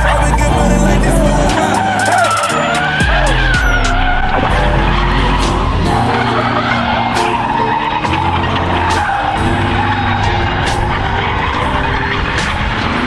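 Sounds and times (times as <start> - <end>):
music with steady beat: 0.0 - 11.7
car engine: 0.0 - 13.0
tyres squealing: 0.0 - 13.0.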